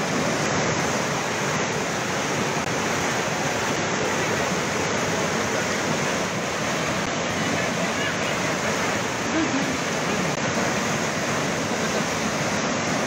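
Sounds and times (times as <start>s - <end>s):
flood water rushing: 0.0s - 13.0s.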